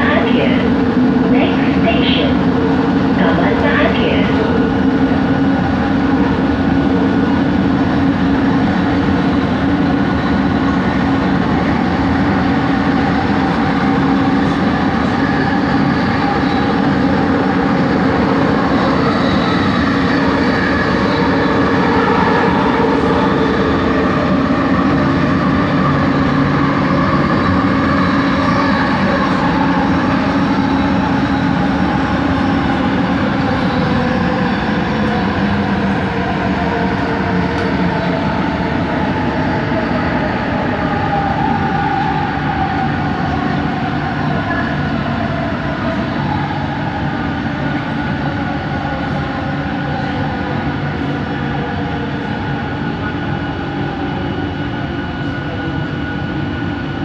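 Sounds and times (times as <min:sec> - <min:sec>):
light-rail train rumbling: 0:00.0 - 0:57.0.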